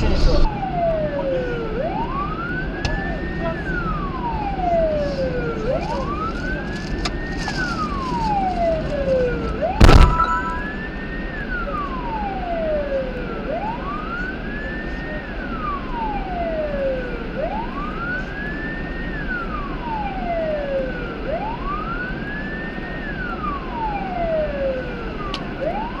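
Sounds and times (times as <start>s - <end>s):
emergency siren wailing: 0.0s - 26.0s.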